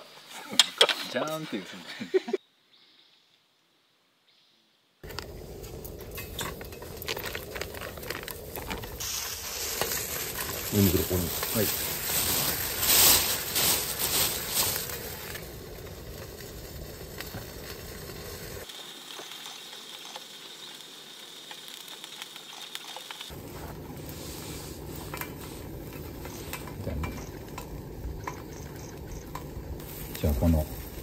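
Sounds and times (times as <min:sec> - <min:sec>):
sausages sizzling in frying pan: 0:05.2 - 0:31.0.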